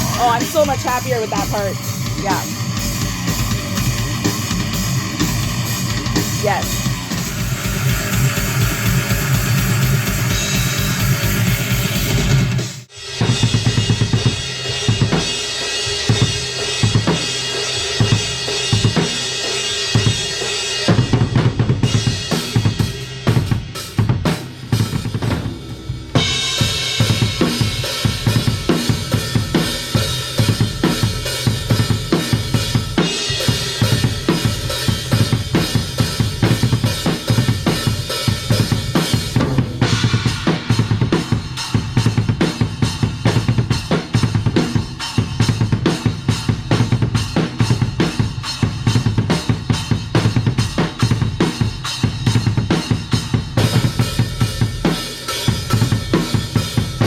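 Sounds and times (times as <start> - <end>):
drum kit rock beat: 0.0 - 57.0.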